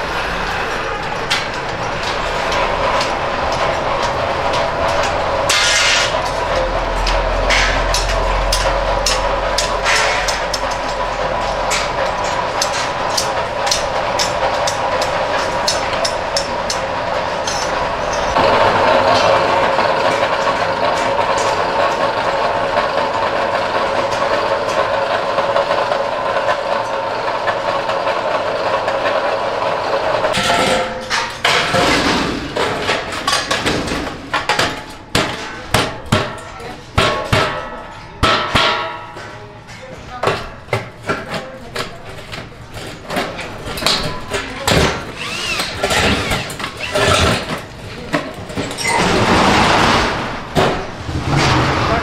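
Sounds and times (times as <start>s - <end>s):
machine metallic drone: 0.0s - 40.7s, 43.2s - 52.0s.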